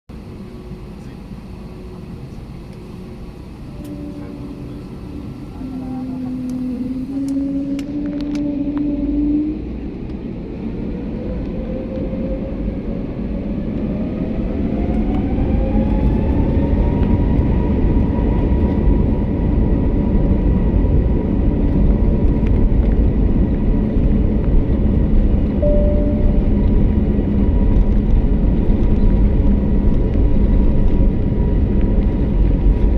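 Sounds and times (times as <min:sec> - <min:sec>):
jet engine whine: 0:00.1 - 0:32.9
loud engine rumble: 0:00.1 - 0:32.9.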